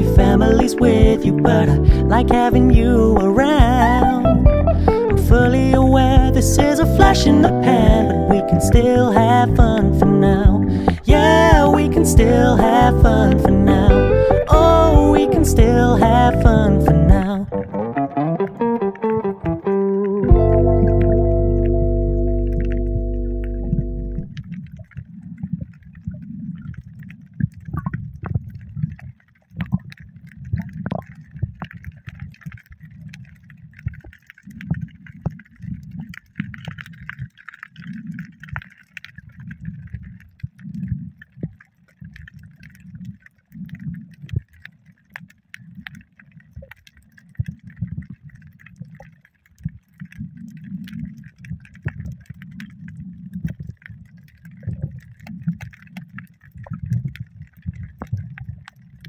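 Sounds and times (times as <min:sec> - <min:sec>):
crackling clicks: 0:00.0 - 0:59.0
water sloshing: 0:00.0 - 0:59.0.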